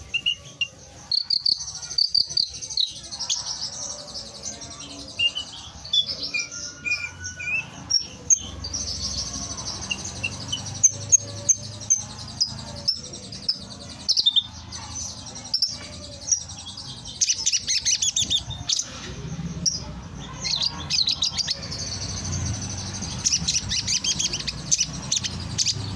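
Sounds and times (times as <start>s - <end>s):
birds chirping and trilling: 0.0s - 25.9s.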